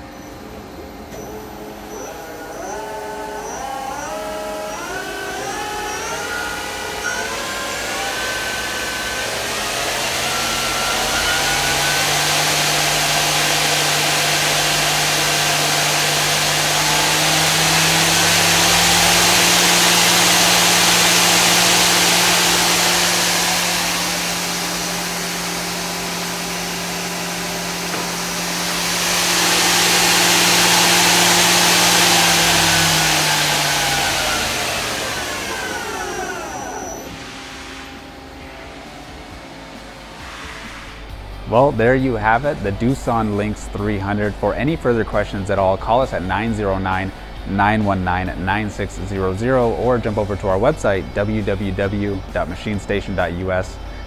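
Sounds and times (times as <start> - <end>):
lathe spindle whine: 0.0 - 54.0
loud rushing hiss: 1.4 - 54.0.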